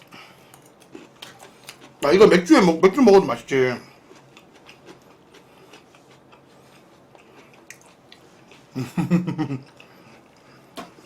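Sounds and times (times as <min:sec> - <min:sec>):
person chewing: 0:00.0 - 0:02.5, 0:03.8 - 0:11.0.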